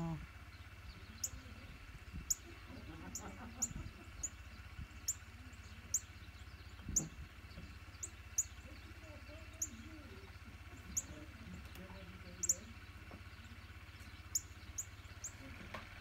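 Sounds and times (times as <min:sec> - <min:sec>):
bird chip calls: 0:00.0 - 0:15.5
faint low hum: 0:00.0 - 0:16.0.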